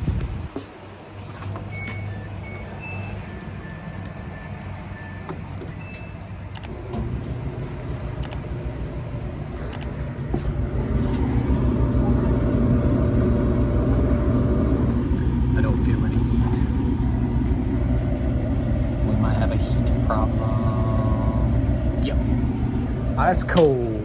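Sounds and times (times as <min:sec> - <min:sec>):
clothes dryer humming: 0:00.0 - 0:24.0.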